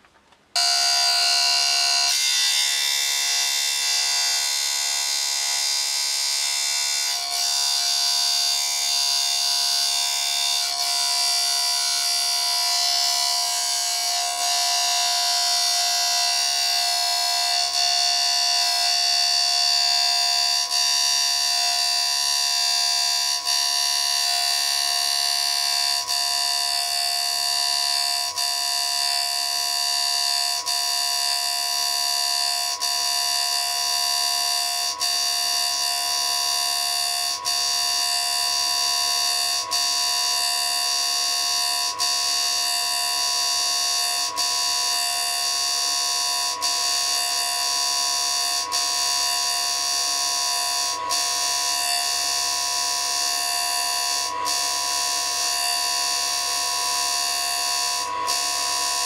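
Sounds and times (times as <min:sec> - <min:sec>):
grinder whine on steel: 0:00.0 - 0:59.0.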